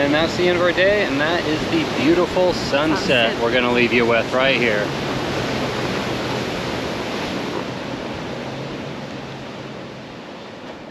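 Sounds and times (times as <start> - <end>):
ocean surf washing: 0.0 - 10.9.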